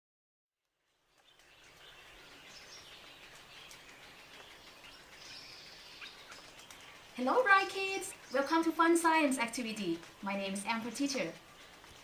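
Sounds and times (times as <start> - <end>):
faint birds chirping: 0.6 - 12.0
steady outdoor hiss: 0.7 - 12.0.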